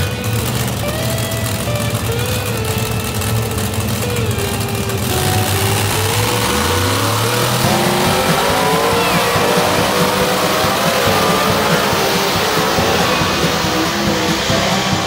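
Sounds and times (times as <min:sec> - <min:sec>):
tractor engine at full throttle: 0:00.0 - 0:15.0.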